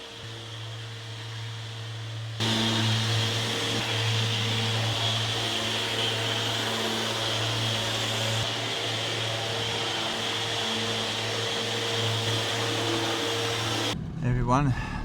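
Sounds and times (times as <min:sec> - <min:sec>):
electric power tool whirring: 0:00.0 - 0:14.0.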